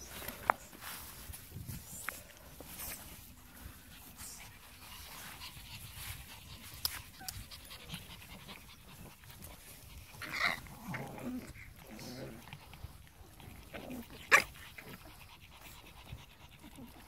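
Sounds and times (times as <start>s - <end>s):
puppies scuffling in grass: 0.0s - 16.9s
puppies panting: 0.0s - 17.0s.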